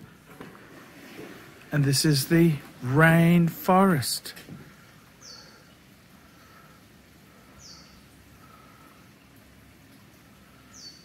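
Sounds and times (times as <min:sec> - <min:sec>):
rainforest ambience: 0:00.0 - 0:11.0.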